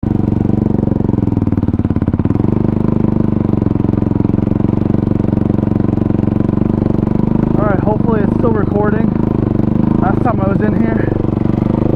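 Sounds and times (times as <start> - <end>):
quad bike engine running: 0.0 - 11.9.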